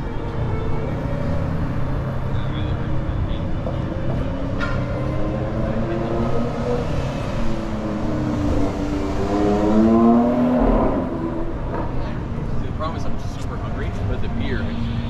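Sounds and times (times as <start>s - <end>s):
vehicle engine pulling away: 0.0s - 14.4s
city street traffic: 0.0s - 15.0s.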